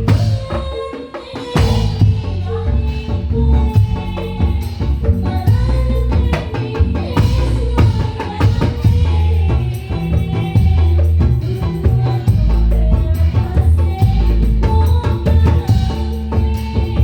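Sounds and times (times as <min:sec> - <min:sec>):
bamboo slit drums and drums: 0:00.0 - 0:17.0.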